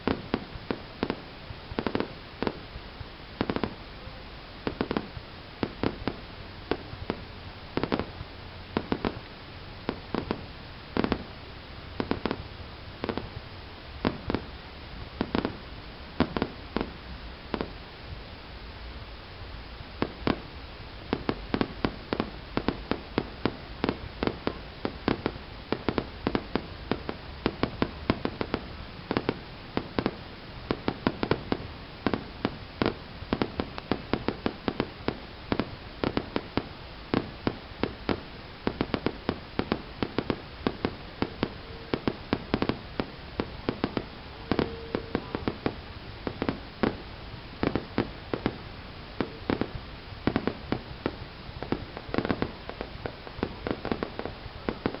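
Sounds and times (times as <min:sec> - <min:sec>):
fireworks bangs: 0:00.0 - 0:18.2, 0:19.9 - 0:55.0.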